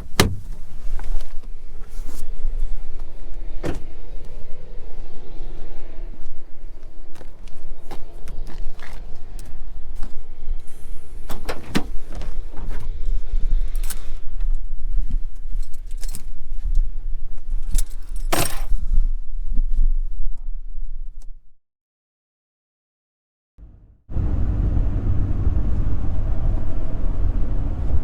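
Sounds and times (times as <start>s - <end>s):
vehicle road rumble: 0.0s - 21.5s, 23.6s - 28.0s.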